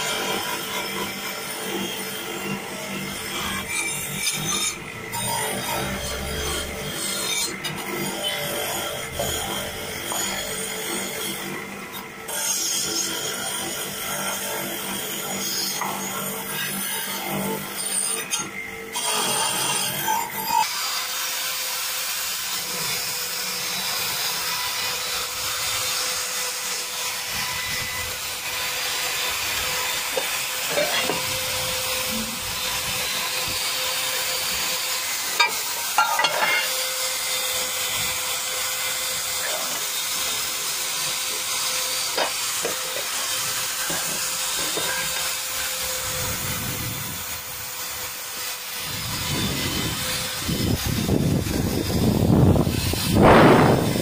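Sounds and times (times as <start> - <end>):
die grinder whining: 0.0 - 54.0
grinder scraping metal: 0.0 - 54.0.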